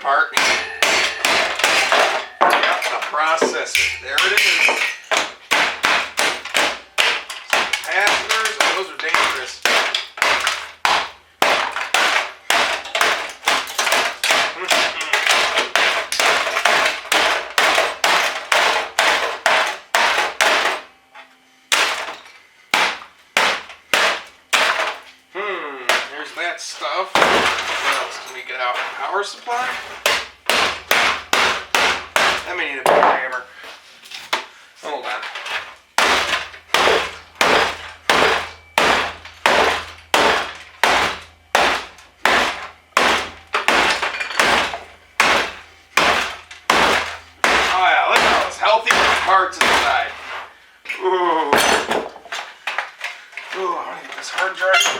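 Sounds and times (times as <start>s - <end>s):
hammer striking computer parts: 0.3s - 20.9s, 21.7s - 25.1s, 25.8s - 26.4s, 27.1s - 28.2s, 29.5s - 33.3s, 35.5s - 50.4s.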